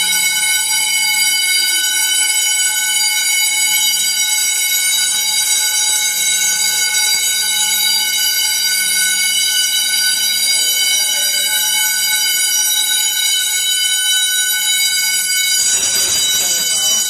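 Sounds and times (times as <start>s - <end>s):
fire alarm ringing: 0.0s - 17.0s.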